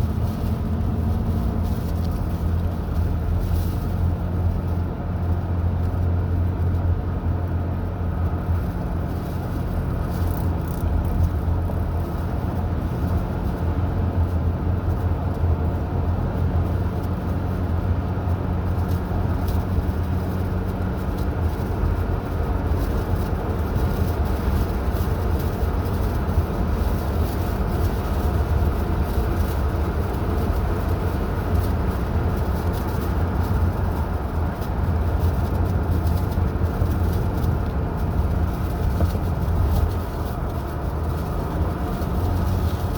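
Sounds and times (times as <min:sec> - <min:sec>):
car engine hum: 0:00.0 - 0:42.9
tyre and road noise: 0:00.0 - 0:42.9.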